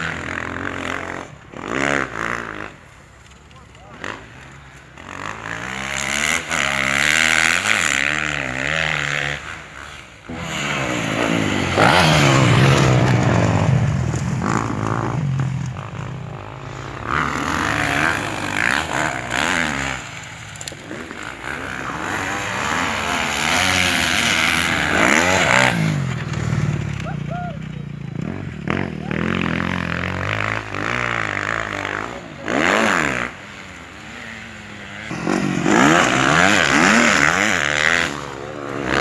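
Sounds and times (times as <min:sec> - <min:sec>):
motorcycle engines revving past: 0:00.0 - 0:39.0.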